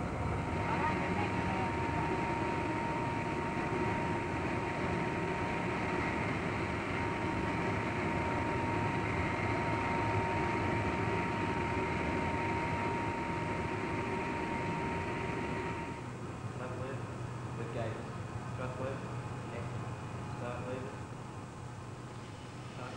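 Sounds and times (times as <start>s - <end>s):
jet aircraft noise with high whine: 0.0s - 22.9s.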